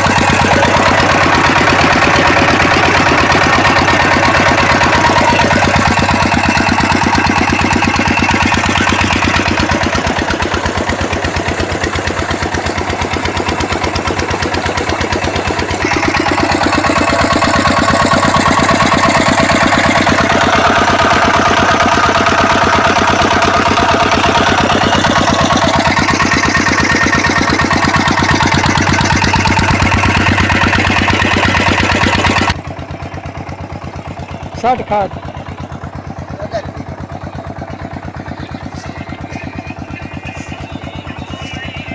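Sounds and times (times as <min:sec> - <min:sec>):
diesel engine running a water pump: 0:00.0 - 0:41.9.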